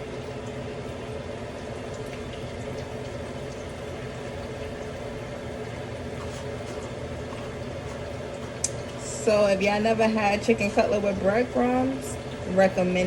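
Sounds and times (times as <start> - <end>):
chicken deep-frying in oil: 0.0 - 13.0
oil popping: 0.0 - 13.0.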